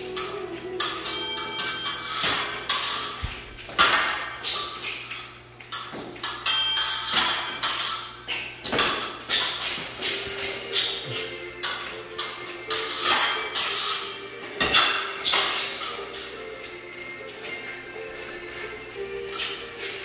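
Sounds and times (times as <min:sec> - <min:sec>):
fencing blades clicking: 0:00.0 - 0:16.7.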